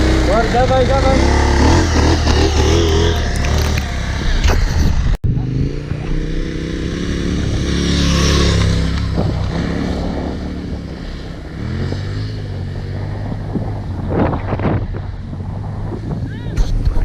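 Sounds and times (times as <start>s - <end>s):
motorcycle engine revving: 0.0s - 16.9s
wind noise: 0.0s - 17.0s.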